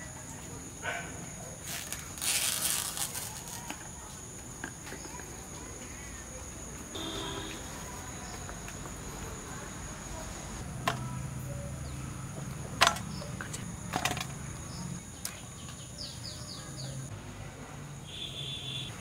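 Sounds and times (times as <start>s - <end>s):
crickets and insects droning: 0.0s - 19.0s.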